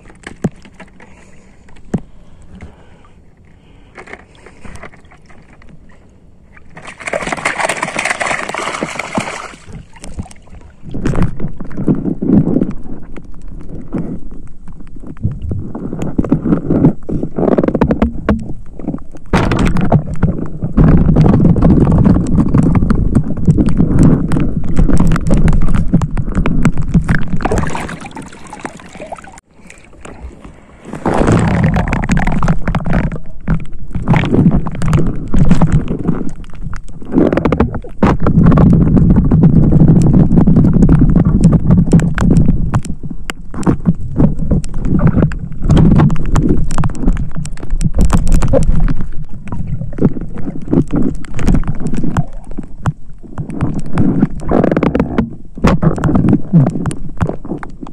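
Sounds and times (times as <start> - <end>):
sea water sloshing and gurgling: 0.0 - 57.9.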